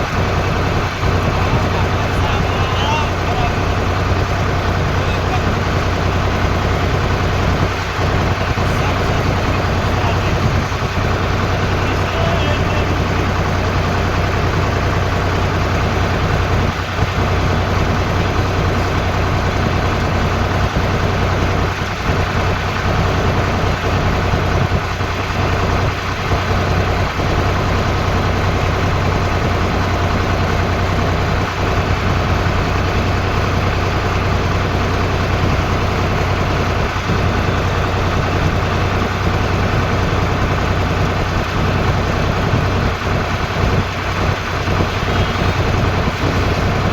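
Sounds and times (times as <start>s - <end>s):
tractor engine humming: 0.0s - 46.9s.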